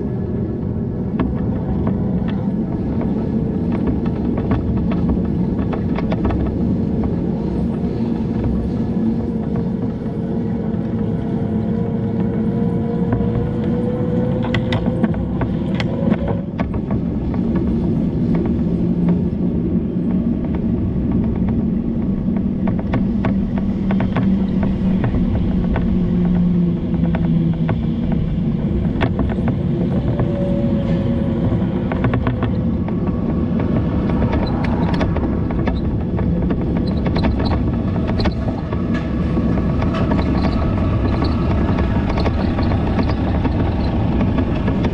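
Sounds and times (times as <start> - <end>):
road traffic rumbling: 0.0 - 44.9.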